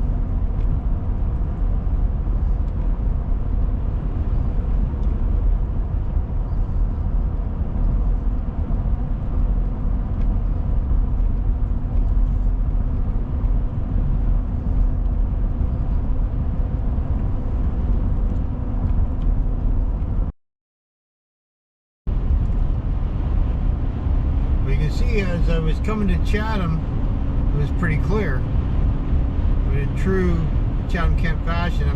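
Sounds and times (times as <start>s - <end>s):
car road and engine rumble: 0.0s - 20.3s, 22.1s - 31.9s.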